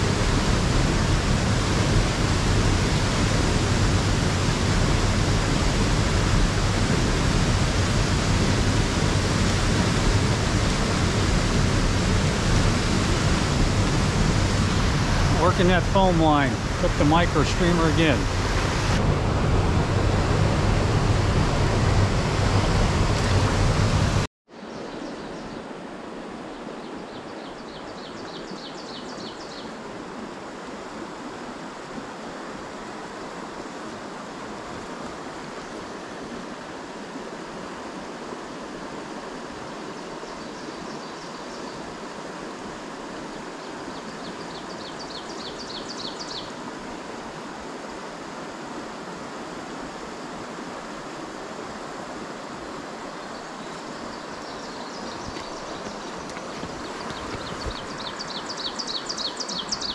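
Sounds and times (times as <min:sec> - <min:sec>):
stream flowing over rocks: 0:00.0 - 0:24.3, 0:29.7 - 0:59.9.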